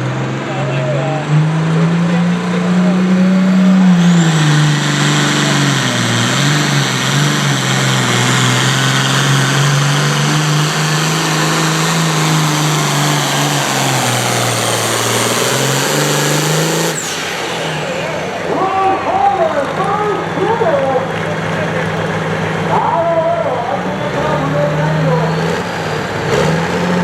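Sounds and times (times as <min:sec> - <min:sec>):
engine running hard under load: 0:00.0 - 0:27.0.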